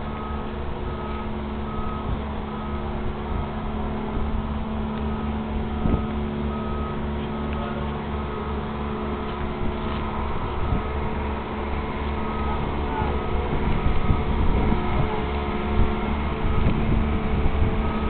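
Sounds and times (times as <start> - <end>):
diesel engine throbbing: 0.0 - 18.0.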